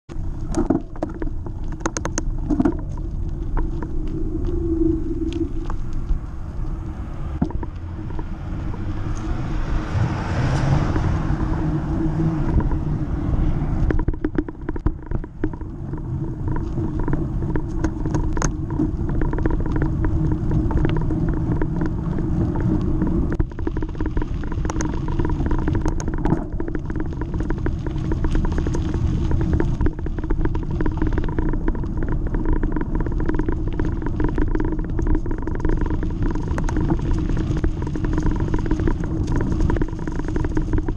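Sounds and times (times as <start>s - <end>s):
bike clicks and rattles: 0.1s - 9.4s, 13.8s - 40.9s
tyre noise: 0.1s - 40.9s
wind buffeting microphone: 0.1s - 40.9s.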